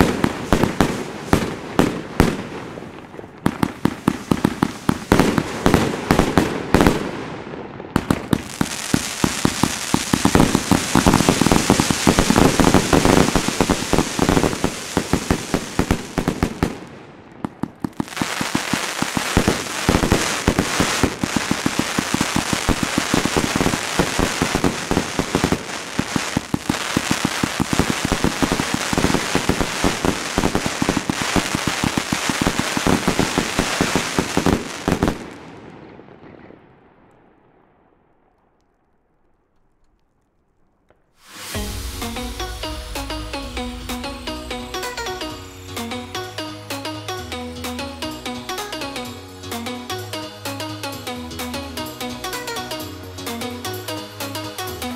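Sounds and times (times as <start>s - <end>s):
fireworks shots and crackling bursts: 0.0s - 38.9s, 41.1s - 46.9s.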